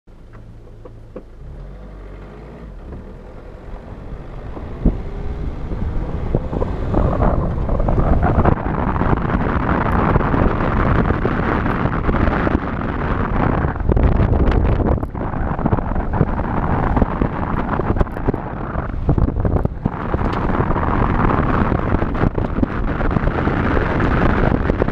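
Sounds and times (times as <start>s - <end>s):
car engine drone: 0.1s - 24.9s
road noise: 0.1s - 24.9s
wind rushing over microphone: 2.6s - 24.9s.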